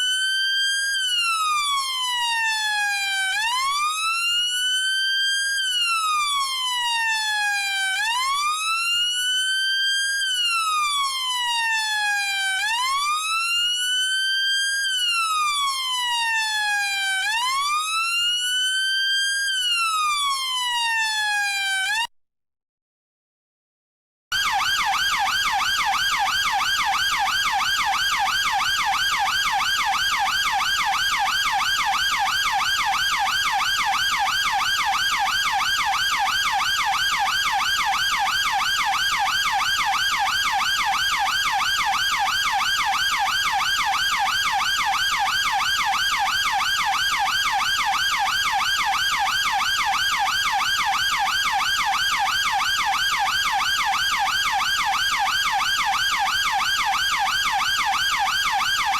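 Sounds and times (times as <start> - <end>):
police siren yelping: 0.0 - 22.1, 24.3 - 58.9.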